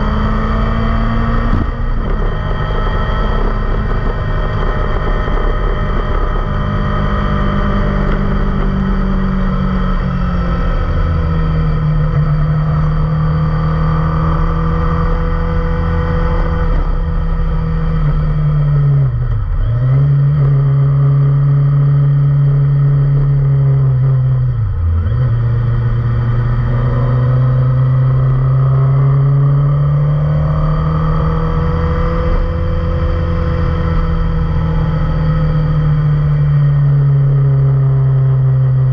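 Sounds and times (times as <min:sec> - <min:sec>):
motorcycle engine at mid revs: 0:00.0 - 0:38.9.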